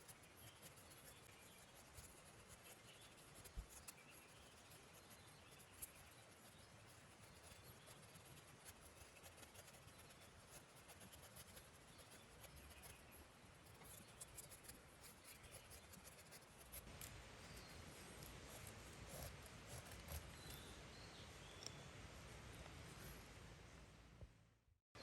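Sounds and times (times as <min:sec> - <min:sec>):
quiet hiss: 0:00.0 - 0:25.0.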